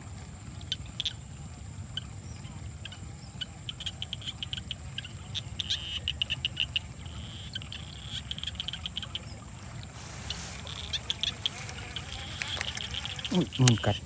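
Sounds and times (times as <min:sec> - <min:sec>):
frogs calling in clicking pulses: 0:00.5 - 0:14.0.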